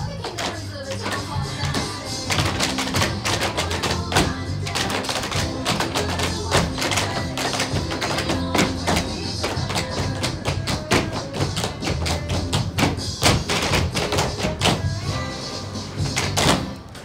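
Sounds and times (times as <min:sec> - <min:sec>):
tap shoes striking stage floor: 0:00.0 - 0:15.0, 0:16.0 - 0:17.0
dance track over speaker: 0:00.0 - 0:16.8.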